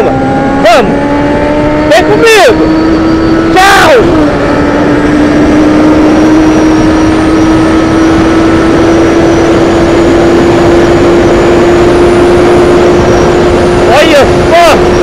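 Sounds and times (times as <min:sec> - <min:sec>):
heavy wind rush: 0:00.0 - 0:15.0
motorcycle engine at high revs: 0:00.0 - 0:15.0.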